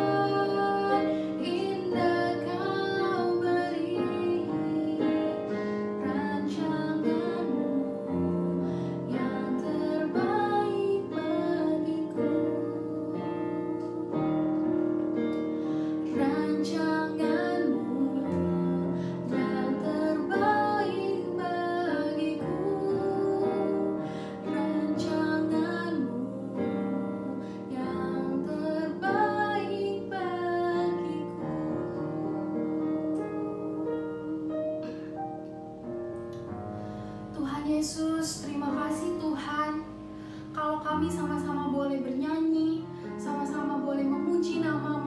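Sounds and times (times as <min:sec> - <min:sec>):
woman singing worship song: 0:00.0 - 0:14.4, 0:15.8 - 0:34.6, 0:37.3 - 0:45.0
electronic keyboard chords: 0:00.0 - 0:45.0.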